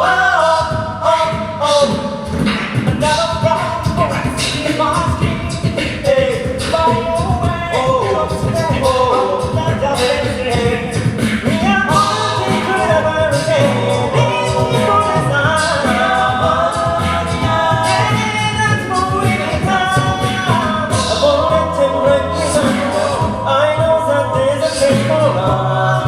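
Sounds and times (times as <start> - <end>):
sung bass line: 0.0 - 26.0
vocal group singing in harmony: 0.0 - 26.0
vocal percussion beat: 0.0 - 26.0.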